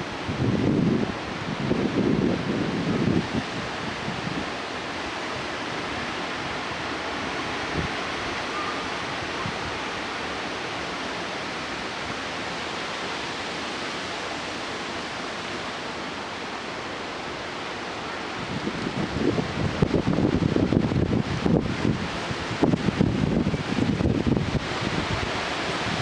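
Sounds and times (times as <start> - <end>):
wind rushing through trees: 0.0 - 26.0.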